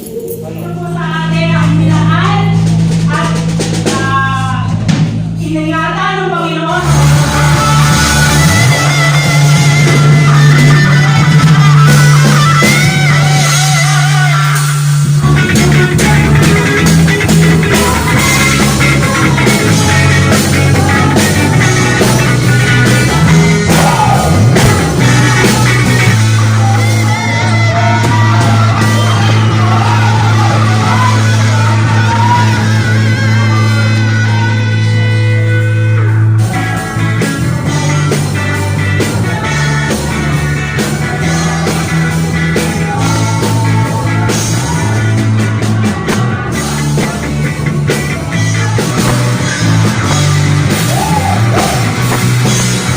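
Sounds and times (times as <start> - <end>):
guitar: 0.0 - 52.9
low bass line: 0.0 - 52.9
person singing: 0.0 - 52.9.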